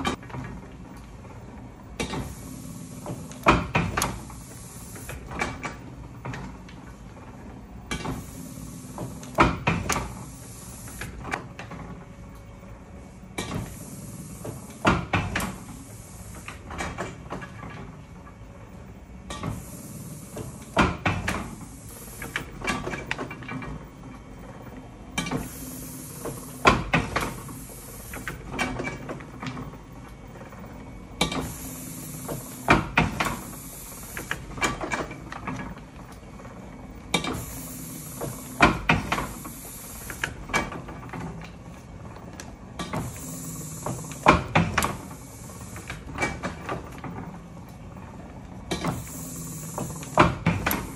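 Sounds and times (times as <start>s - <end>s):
printing press clattering: 0.0s - 50.9s.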